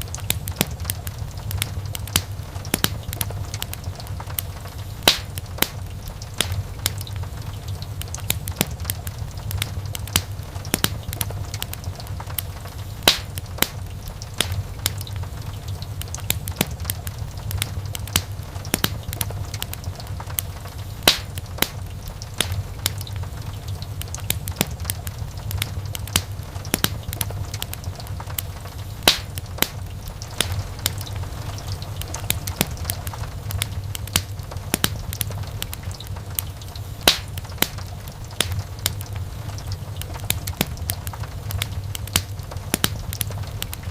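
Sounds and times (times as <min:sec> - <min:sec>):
low rumble of flames: 0:00.0 - 0:43.9
wood fire crackling and popping: 0:00.0 - 0:43.9.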